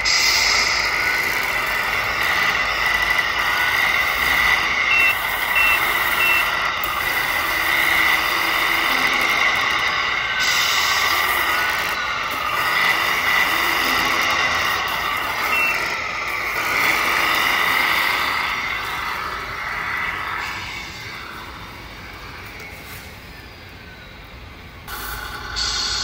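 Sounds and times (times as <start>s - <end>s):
simulated diesel truck engine: 0.0s - 26.0s.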